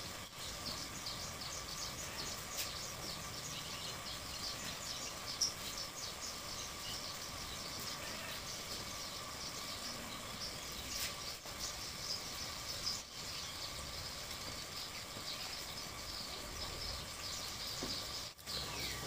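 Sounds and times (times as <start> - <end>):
birds chirping: 0.0 - 19.0
insects chirping: 0.0 - 19.0.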